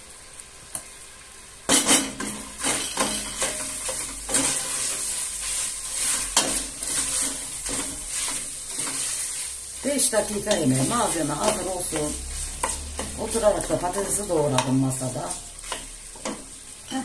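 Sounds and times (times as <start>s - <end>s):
oil sizzling: 0.0s - 17.0s
wooden spoon scraping a pot: 1.7s - 9.6s, 10.4s - 16.5s.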